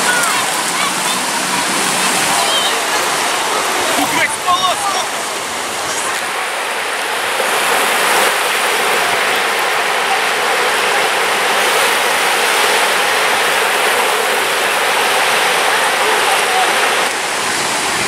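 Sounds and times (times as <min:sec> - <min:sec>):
crowded beach noise: 0:00.0 - 0:18.0
small waves breaking on sand: 0:00.0 - 0:18.0.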